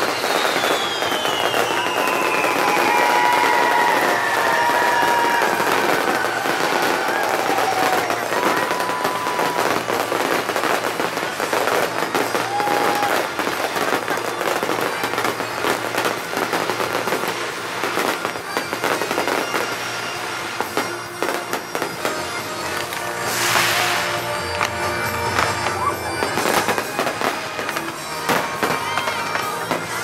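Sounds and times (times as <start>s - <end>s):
firework whistle: 0.0s - 30.0s
fireworks crackling bangs: 0.0s - 30.0s.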